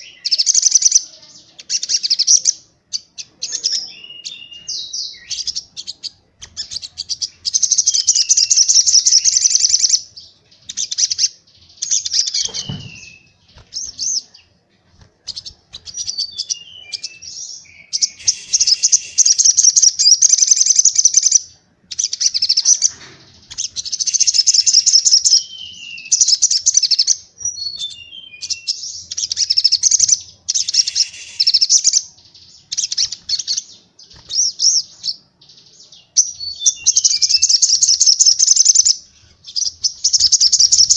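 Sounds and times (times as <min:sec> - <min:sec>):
bird chattering song: 0:00.0 - 0:14.6, 0:15.2 - 0:40.9.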